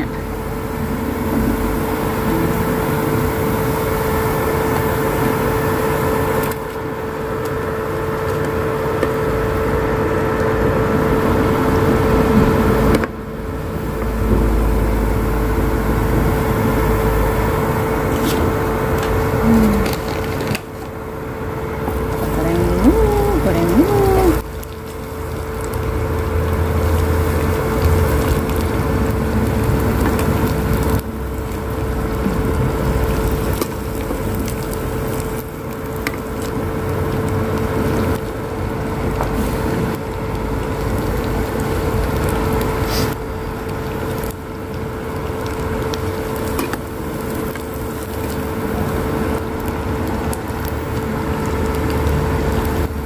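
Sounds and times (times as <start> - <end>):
induction cooker hum: 0.0 - 53.0
cracker sizzling in hot oil: 0.2 - 53.0.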